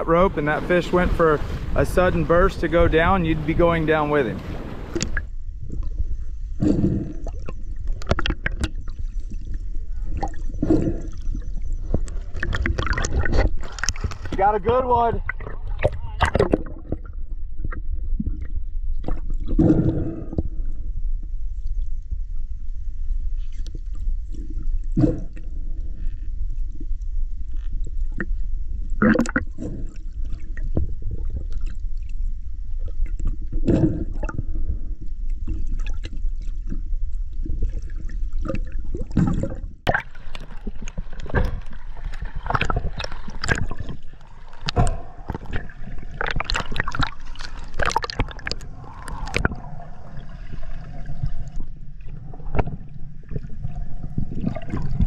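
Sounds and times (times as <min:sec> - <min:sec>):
crackling bubbles and splashes: 0:00.0 - 0:55.0
muffled underwater rumble and sloshing: 0:00.0 - 0:55.0.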